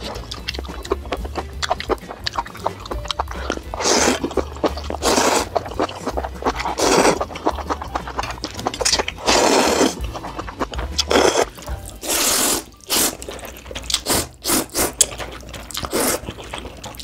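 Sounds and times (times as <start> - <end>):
noodles being slurped: 0.0 - 17.0
wet chewing clicks: 0.0 - 17.0.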